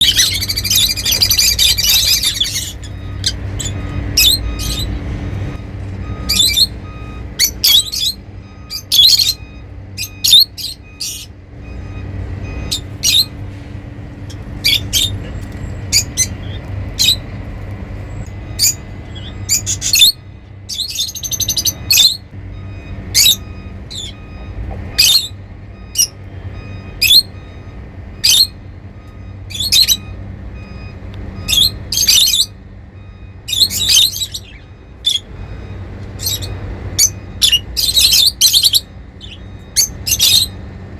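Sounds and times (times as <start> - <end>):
sharp high bird chirps: 0.0 - 5.0, 5.7 - 13.4, 14.2 - 17.3, 18.2 - 26.2, 26.9 - 27.6, 28.2 - 28.6, 29.4 - 30.2, 31.4 - 32.6, 33.4 - 40.7
birds shrill chattering: 0.0 - 13.5, 14.1 - 17.4, 18.1 - 22.3, 22.9 - 26.3, 26.9 - 27.5, 28.2 - 28.6, 29.4 - 30.3, 31.2 - 32.6, 33.4 - 40.9.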